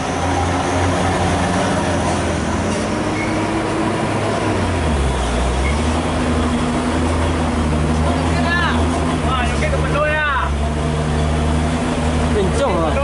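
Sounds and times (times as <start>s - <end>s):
truck diesel engine under load: 0.0s - 13.0s.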